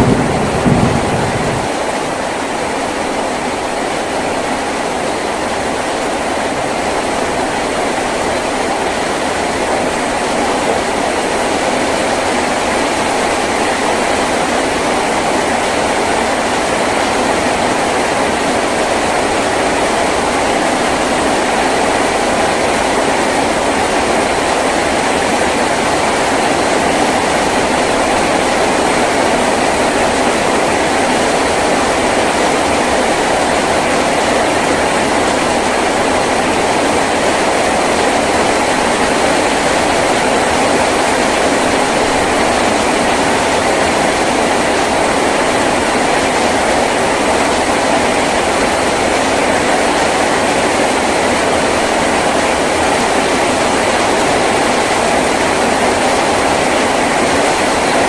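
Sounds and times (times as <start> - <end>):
heavy rain on a tin roof: 0.0 - 58.0.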